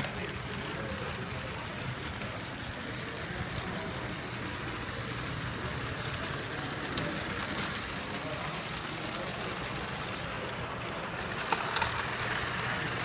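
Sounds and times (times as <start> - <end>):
exhibition hall rumble and hiss: 0.0 - 13.0.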